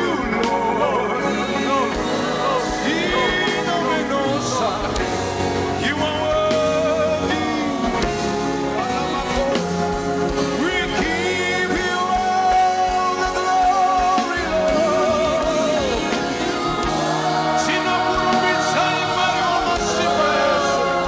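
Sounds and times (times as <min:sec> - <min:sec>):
band accompaniment: 0:00.0 - 0:21.0
gospel choir singing: 0:00.0 - 0:21.0
lead singer with vibrato: 0:00.0 - 0:21.0.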